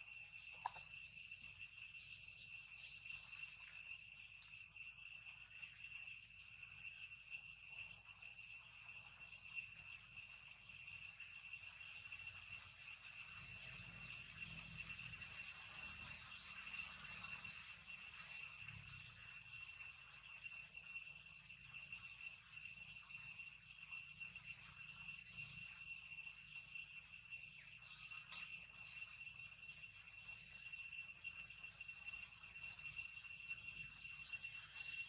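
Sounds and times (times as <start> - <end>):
shrill insect chorus: 0.0 - 35.0.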